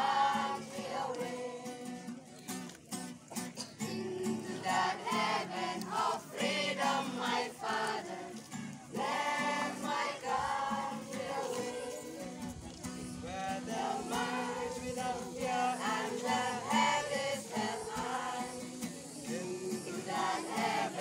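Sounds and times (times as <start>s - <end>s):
young voices singing together: 0.0s - 2.2s, 3.5s - 21.0s
acoustic guitar: 0.0s - 21.0s.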